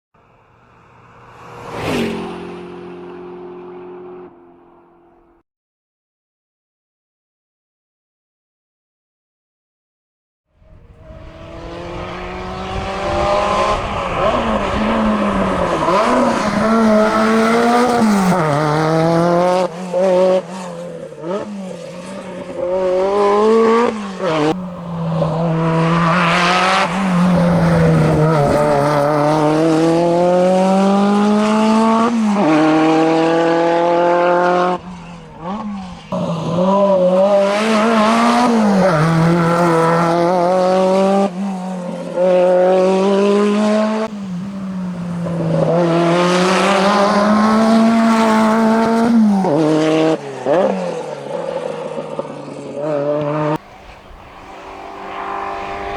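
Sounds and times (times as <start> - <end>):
car engine revving through gears: 10.9 - 55.9.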